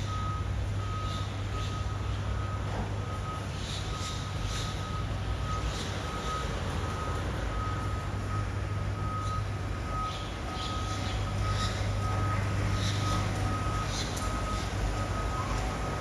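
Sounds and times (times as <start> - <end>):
diesel engine idling: 0.0 - 16.0
reversing alarm beeping: 0.0 - 16.0.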